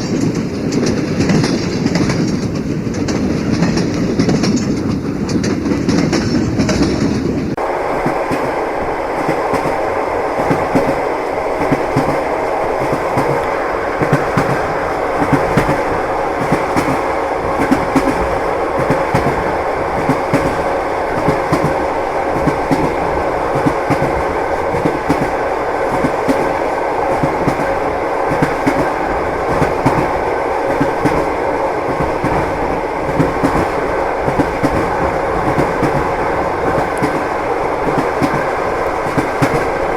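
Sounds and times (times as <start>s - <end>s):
train wheels clattering over rail joints: 0.0s - 39.9s.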